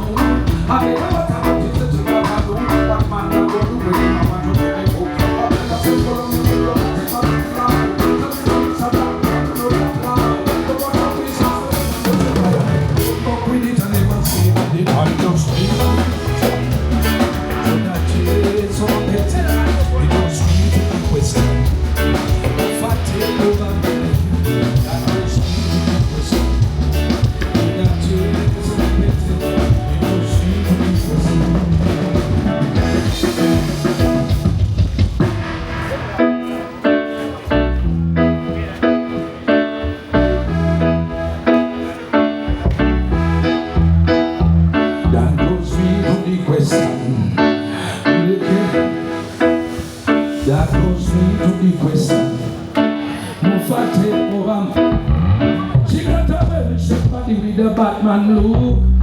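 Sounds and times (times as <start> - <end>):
band music over sound system: 0.0 - 59.0.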